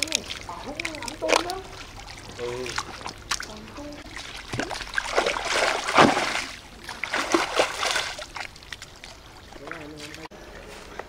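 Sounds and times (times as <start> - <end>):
wading through muddy water: 0.0 - 11.0.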